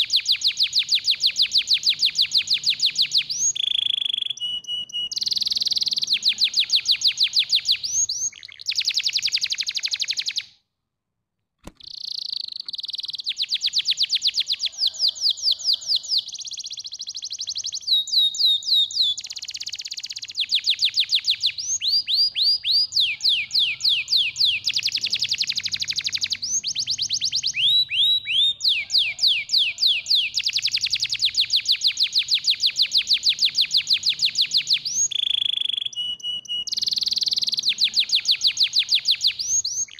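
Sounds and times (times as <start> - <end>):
canary singing trills: 0.0 - 10.5, 11.8 - 39.9.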